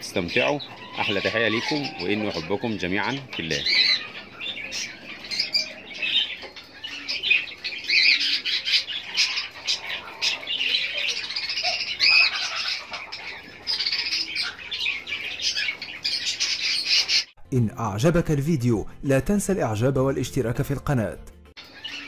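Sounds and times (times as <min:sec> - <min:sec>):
lovebirds chirping and squeaking: 0:00.0 - 0:17.4, 0:21.5 - 0:22.0.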